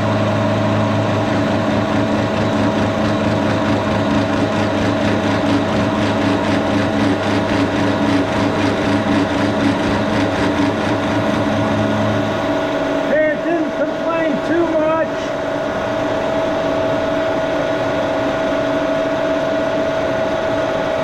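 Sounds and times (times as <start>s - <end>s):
milling machine humming and whining: 0.0s - 21.0s.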